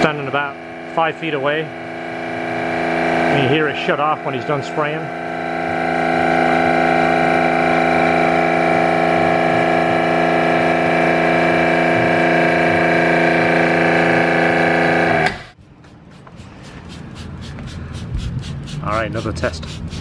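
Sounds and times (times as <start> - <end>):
pressure washer motor humming: 0.0 - 20.0.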